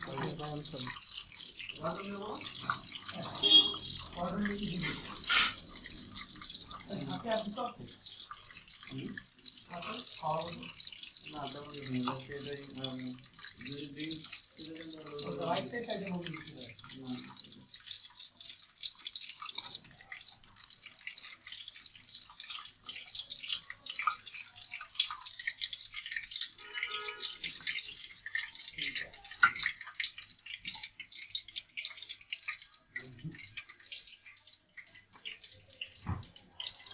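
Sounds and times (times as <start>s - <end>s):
food frying in hot oil: 0.0s - 36.9s.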